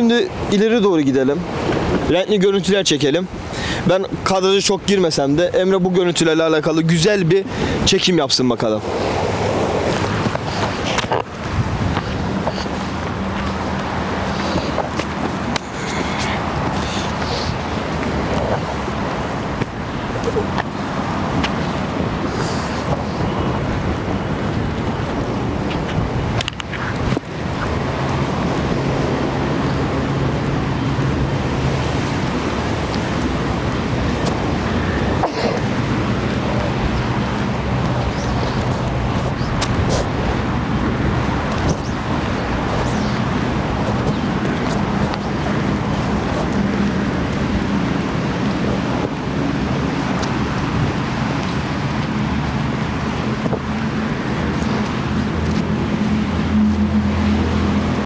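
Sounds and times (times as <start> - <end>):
wind buffeting microphone: 0.0 - 58.0
sea waves breaking: 6.8 - 58.0.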